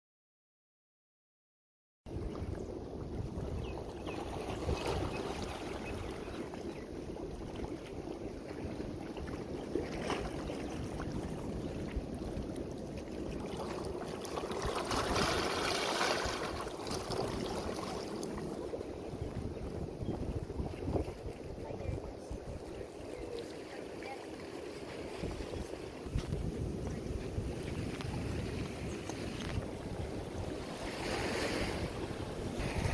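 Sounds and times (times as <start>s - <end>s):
wind on microphone: 2.1s - 32.9s
waves washing on a beach: 2.2s - 19.9s, 20.5s - 32.9s.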